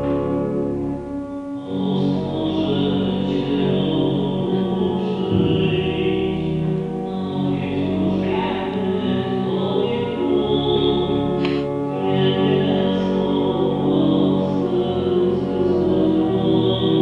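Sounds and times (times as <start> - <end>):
organ accompaniment: 0.0 - 17.0
choir singing a hymn: 1.6 - 17.0.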